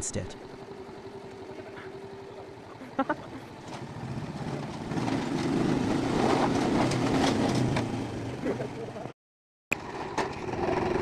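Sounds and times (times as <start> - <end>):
heavy vehicle engine running: 0.0 - 9.1, 9.8 - 11.0.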